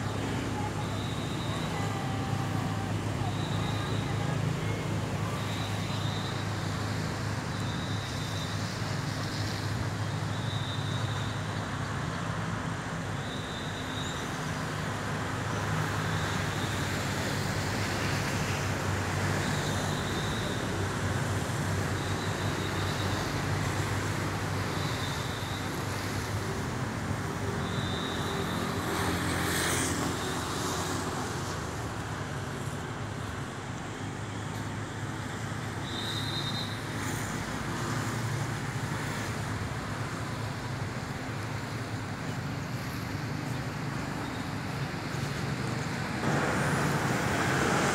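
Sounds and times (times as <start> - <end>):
road traffic noise: 0.0 - 47.9.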